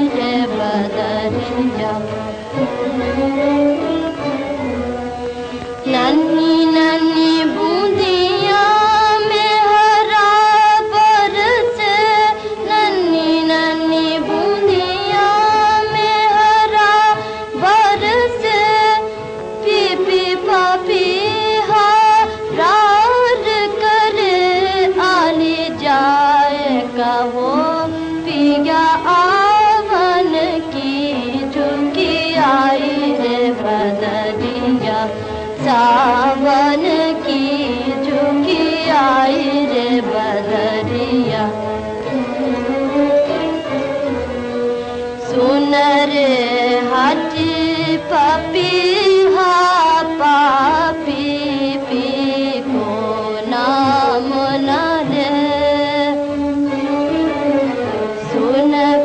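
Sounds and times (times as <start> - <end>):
wavering melody with accompaniment: 0.0 - 59.0.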